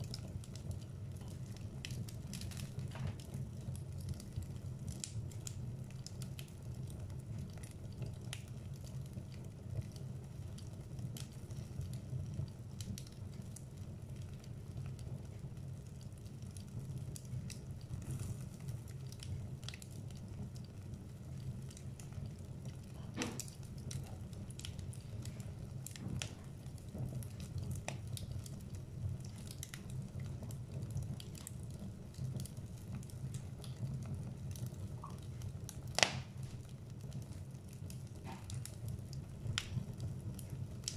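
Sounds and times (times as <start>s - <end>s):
low rumble of fire: 0.0s - 40.9s
wood fire crackling: 0.0s - 40.9s.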